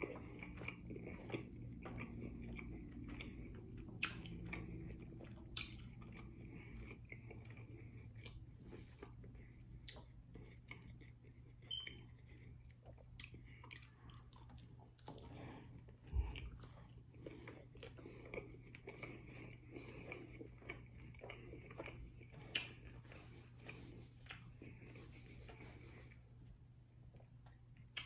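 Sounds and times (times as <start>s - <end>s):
chewing and crunching taco: 0.0s - 28.0s
steady low hum: 0.0s - 28.0s.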